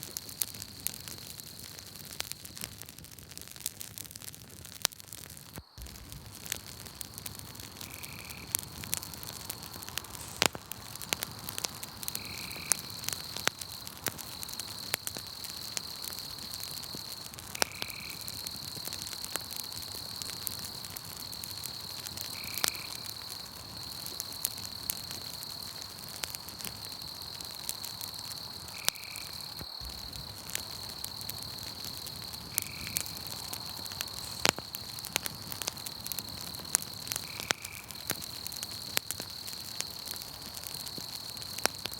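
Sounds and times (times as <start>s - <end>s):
campfire crackling and popping: 0.0s - 41.9s
crickets chirring: 5.2s - 41.9s.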